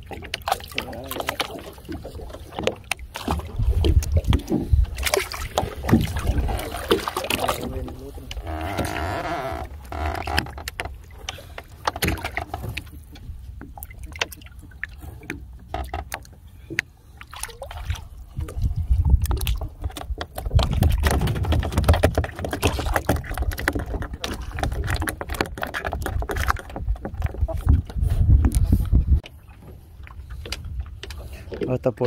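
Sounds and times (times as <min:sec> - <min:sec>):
water splashing against boat: 0:00.0 - 0:32.0.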